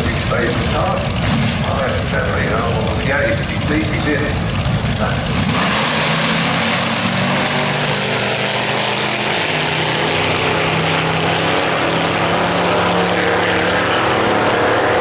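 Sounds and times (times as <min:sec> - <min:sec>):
dragster engine at full throttle: 0:00.0 - 0:15.0.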